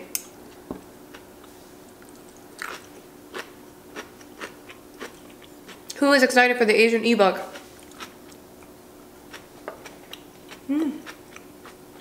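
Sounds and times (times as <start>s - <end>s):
crunchy chewing: 0.5s - 6.0s, 7.5s - 12.0s.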